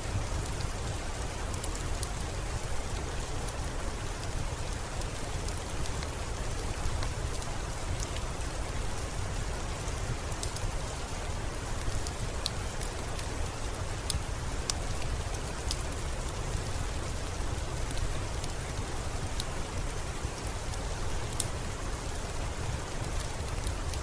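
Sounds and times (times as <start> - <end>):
steady rainfall: 0.0 - 24.0
wood fire crackling: 0.1 - 24.0.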